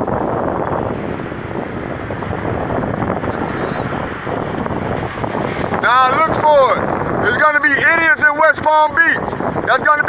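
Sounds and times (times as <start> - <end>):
wind blowing across the microphone: 0.0 - 10.0.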